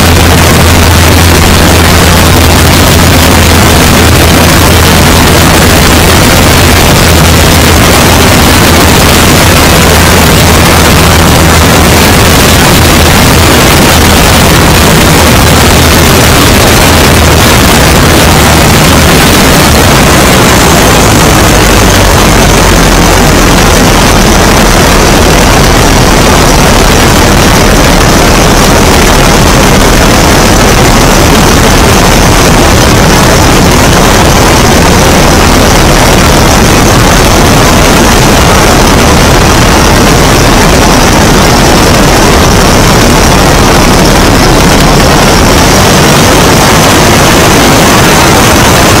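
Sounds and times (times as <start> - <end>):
plane engine and propeller: 0.0 - 49.0
wind rush on microphone: 0.0 - 49.0.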